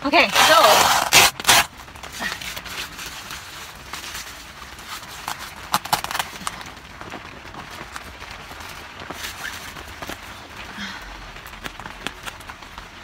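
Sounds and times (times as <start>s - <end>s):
tent fabric rustling: 0.0s - 10.5s.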